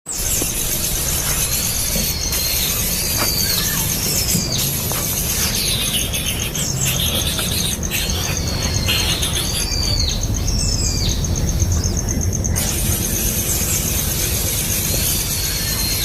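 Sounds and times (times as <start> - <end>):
fast-pulsing insect trill: 0.1 - 16.0.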